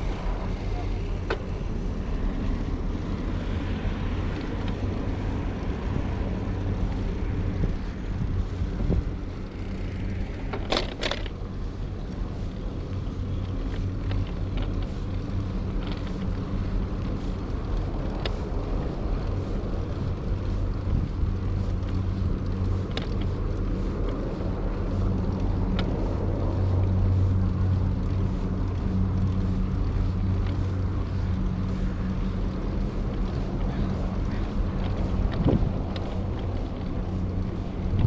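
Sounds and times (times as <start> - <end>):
low engine hum: 0.0 - 38.0
wind rumbling on microphone: 0.0 - 38.0.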